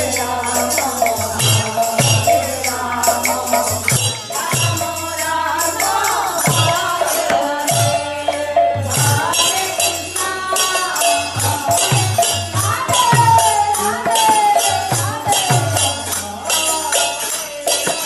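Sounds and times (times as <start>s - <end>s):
group singing: 0.0s - 18.0s
jingling metal percussion: 0.0s - 18.0s.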